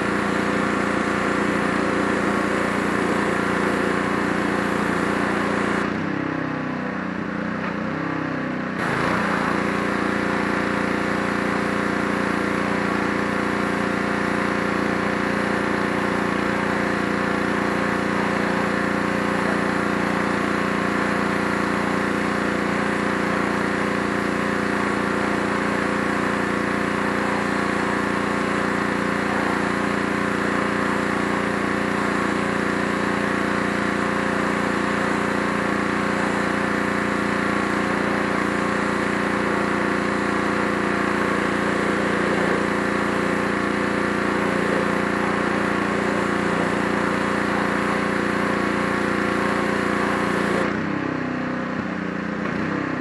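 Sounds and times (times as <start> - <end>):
pressure washer engine drone: 0.0 - 53.0.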